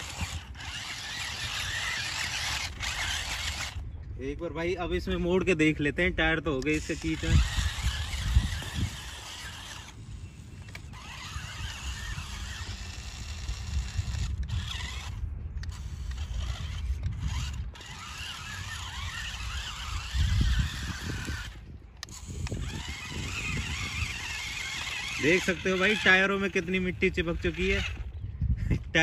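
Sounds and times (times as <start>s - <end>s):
toy car electric motor whining: 0.0s - 3.9s, 6.2s - 28.2s.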